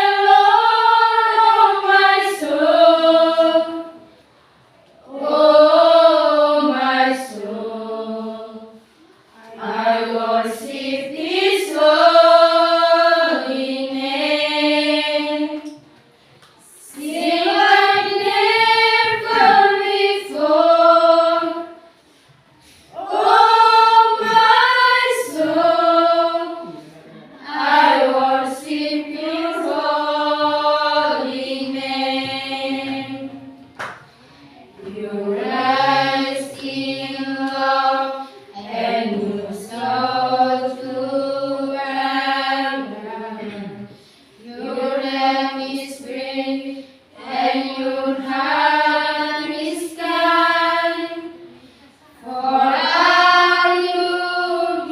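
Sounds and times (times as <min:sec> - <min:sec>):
group singing unaccompanied: 0:00.0 - 0:04.2, 0:04.9 - 0:16.0, 0:16.6 - 0:54.9.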